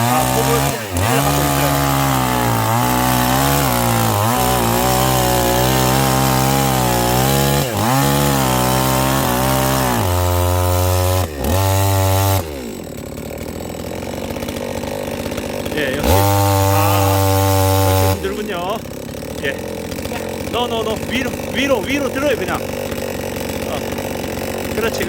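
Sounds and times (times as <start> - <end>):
chainsaw cutting log: 0.0 - 25.0.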